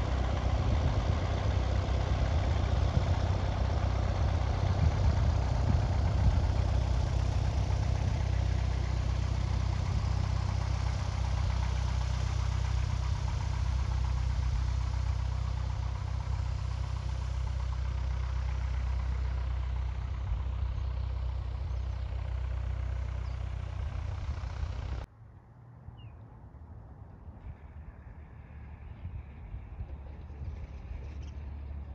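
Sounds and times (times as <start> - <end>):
engine idling: 0.0 - 25.1, 26.9 - 31.9.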